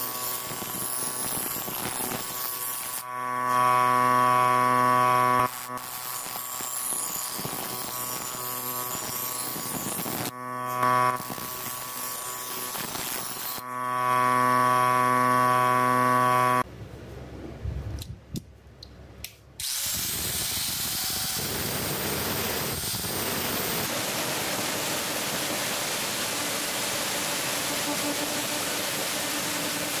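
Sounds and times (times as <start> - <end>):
polishing motor humming: 0.0 - 16.6, 21.2 - 30.0.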